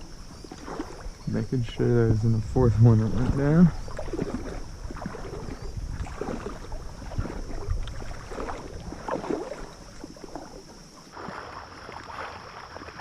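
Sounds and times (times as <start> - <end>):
wading through shallow water: 0.0 - 13.0.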